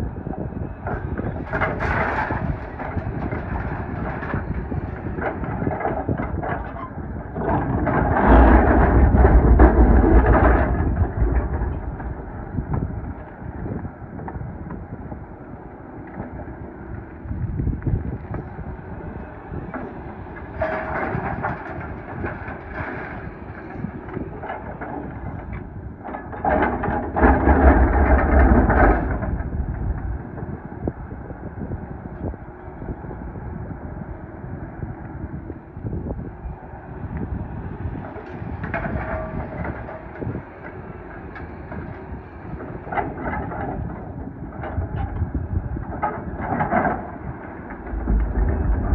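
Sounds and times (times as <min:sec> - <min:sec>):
excavator diesel engine and hydraulics: 0:00.0 - 0:48.9.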